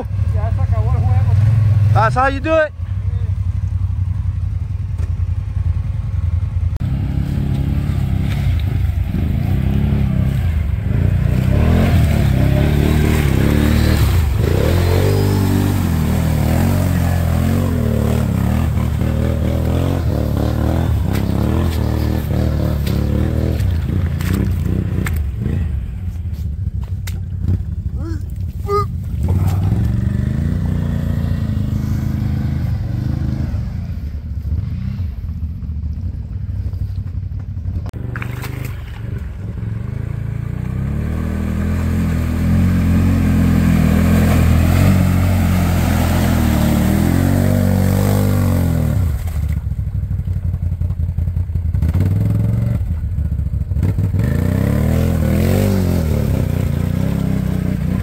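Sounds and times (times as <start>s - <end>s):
atv engine revving: 0.0s - 4.2s, 5.0s - 26.0s, 27.0s - 35.2s, 37.9s - 58.0s.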